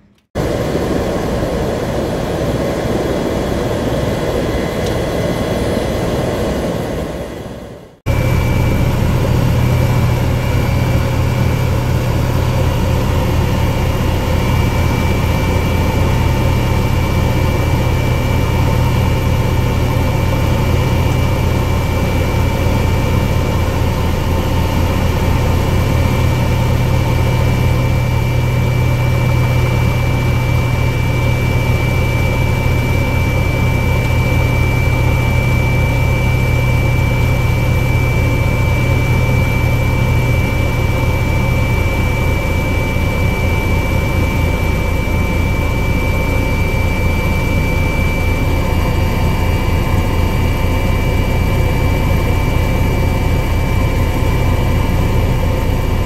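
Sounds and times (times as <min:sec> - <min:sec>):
helicopter rotor beat: 0:00.0 - 0:56.0
turbine whine: 0:00.0 - 0:56.0.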